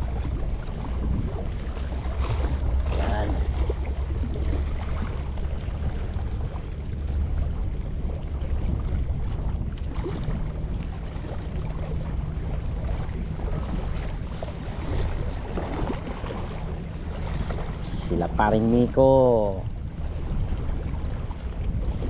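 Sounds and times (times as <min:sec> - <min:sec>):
low rumble: 0:00.0 - 0:22.0
small waves lapping on rocks: 0:00.0 - 0:22.0
wind buffeting microphone: 0:00.0 - 0:22.0.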